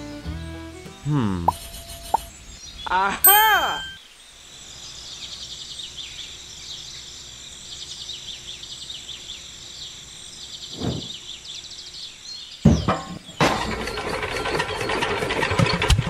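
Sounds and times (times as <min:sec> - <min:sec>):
birds and insects chirping: 0:00.0 - 0:16.0.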